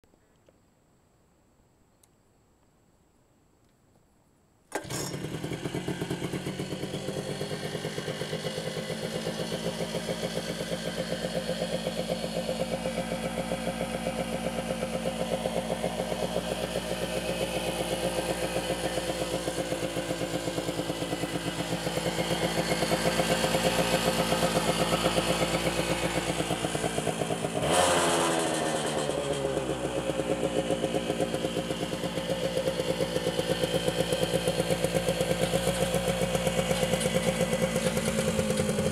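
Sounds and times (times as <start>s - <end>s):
three-wheeler engine idling and revving: 4.7s - 38.9s.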